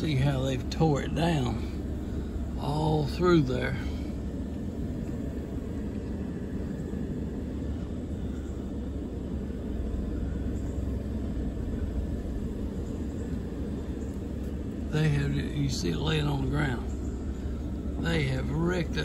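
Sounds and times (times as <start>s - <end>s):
truck engine and tyre rumble: 0.0s - 19.0s.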